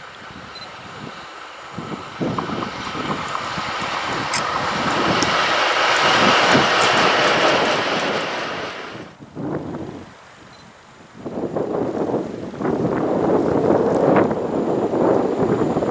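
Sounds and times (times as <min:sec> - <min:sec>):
freight train passing: 0:00.0 - 0:10.0, 0:11.5 - 0:15.9.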